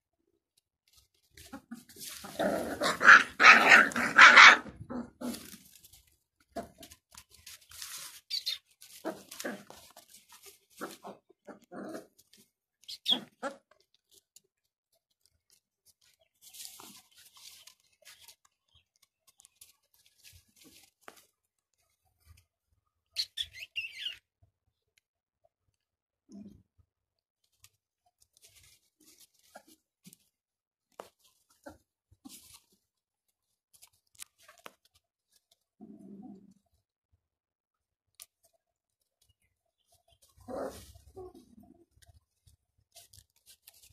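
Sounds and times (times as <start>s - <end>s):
straw rustling: 0.8s - 22.8s, 27.4s - 36.6s, 38.2s - 43.9s.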